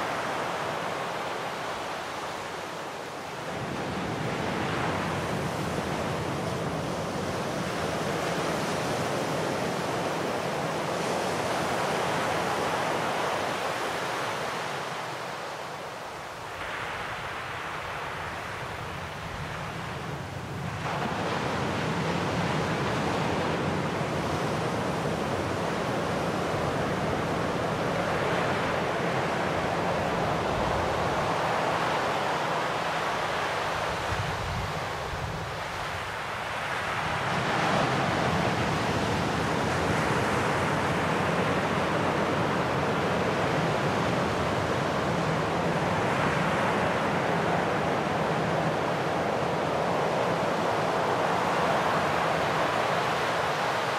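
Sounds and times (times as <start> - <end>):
sea waves washing onto shore: 0.0 - 53.9.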